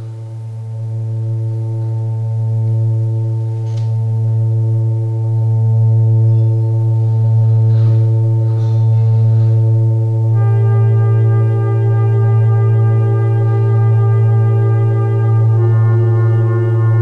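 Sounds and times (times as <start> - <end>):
synthesizer ambient pad chord: 0.0 - 17.0.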